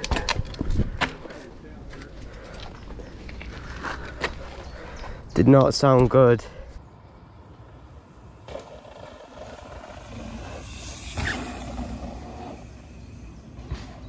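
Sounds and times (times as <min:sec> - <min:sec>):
bike tyres on gravel: 0:00.0 - 0:05.2, 0:07.3 - 0:14.0.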